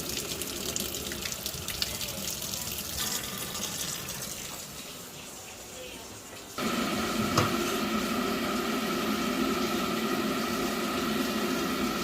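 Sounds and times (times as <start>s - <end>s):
boiler humming: 0.0s - 5.1s, 6.6s - 12.0s.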